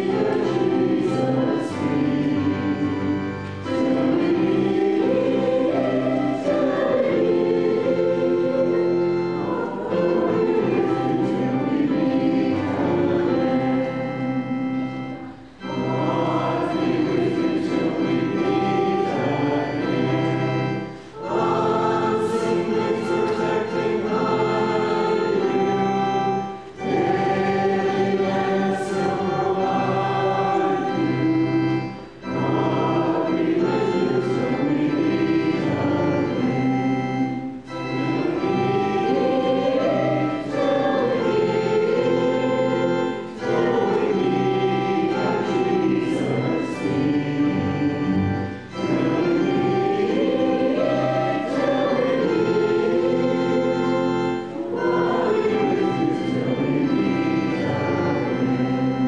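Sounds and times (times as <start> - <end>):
congregation singing a hymn: 0.0 - 59.0
keyboard accompaniment: 0.0 - 59.0.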